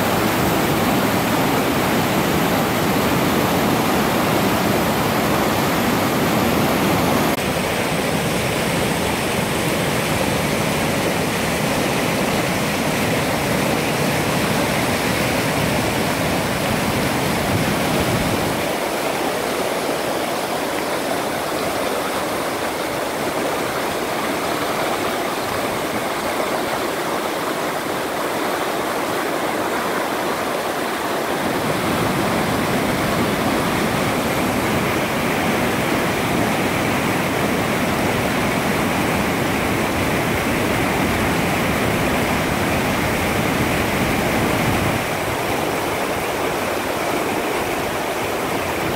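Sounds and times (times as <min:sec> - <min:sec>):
river rushing over rocks: 0:00.0 - 0:48.9.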